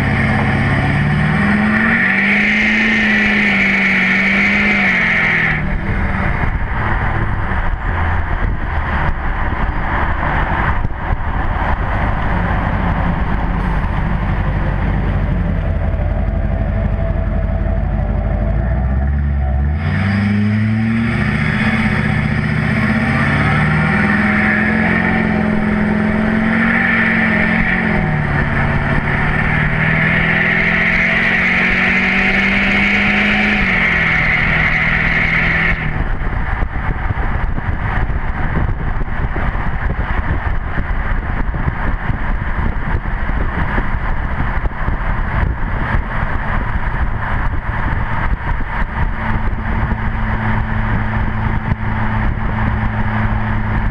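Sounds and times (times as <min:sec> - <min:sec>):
diesel engine accelerating hard: 0:00.0 - 0:53.9.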